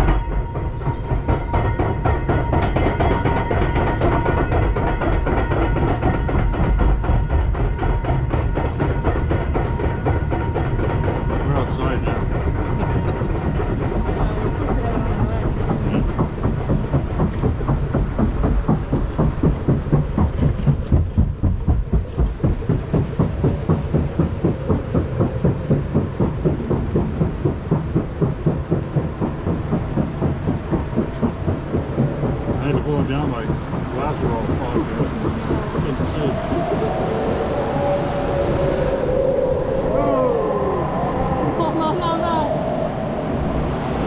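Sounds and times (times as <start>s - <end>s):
raft lift hill rumble and clatter: 0.0s - 44.0s.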